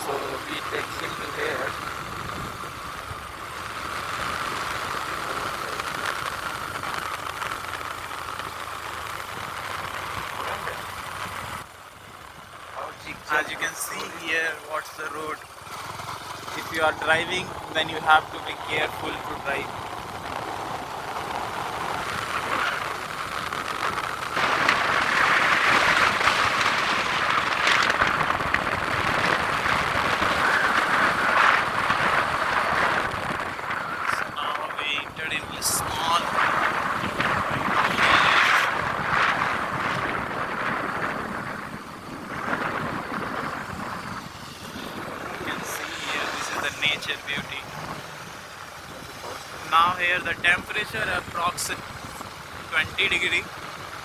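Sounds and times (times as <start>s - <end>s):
motorcycle engine running: 0.0s - 54.0s
road noise: 0.0s - 54.0s
wind and tyres rushing: 0.0s - 54.0s.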